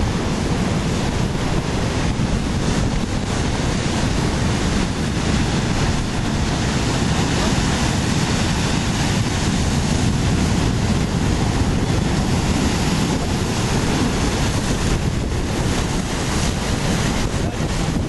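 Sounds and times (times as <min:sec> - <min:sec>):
surf breaking on rocks: 0:00.0 - 0:18.0
wind buffeting microphone: 0:00.0 - 0:18.0.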